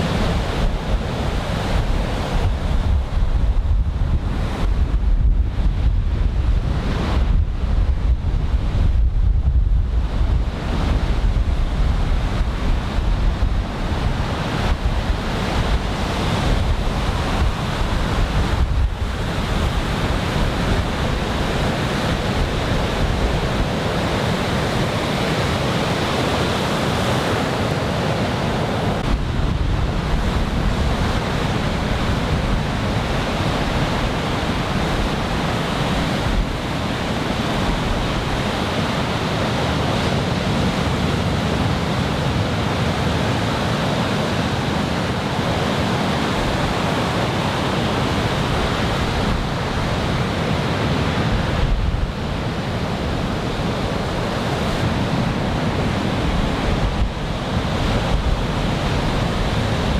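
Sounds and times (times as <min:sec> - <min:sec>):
heavy surf breaking: 0:00.0 - 0:59.9
wind buffeting microphone: 0:00.0 - 0:59.9.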